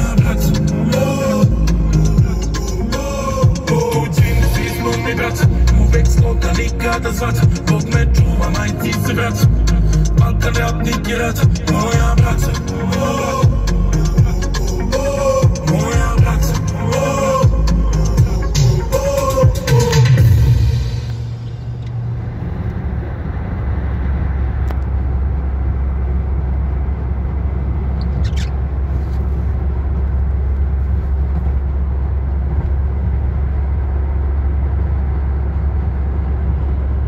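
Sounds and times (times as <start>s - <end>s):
car interior road noise: 0.0s - 37.0s.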